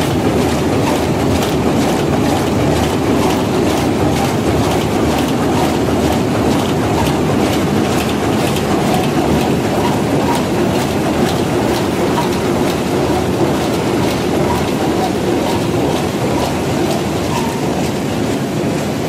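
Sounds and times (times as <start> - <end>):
machinery rattling with ticks: 0.0 - 19.0.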